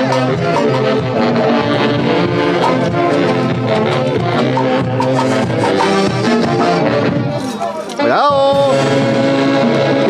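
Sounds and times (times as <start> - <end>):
wind instruments playing a melody: 0.0 - 10.0.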